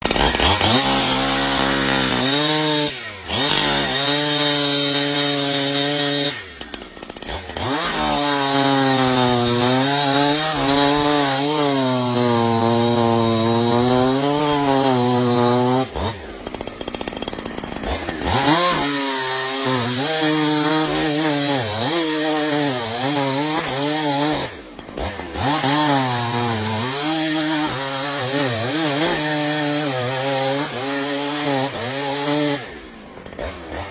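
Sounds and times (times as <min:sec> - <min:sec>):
chainsaw cutting wood: 0:00.0 - 0:33.9.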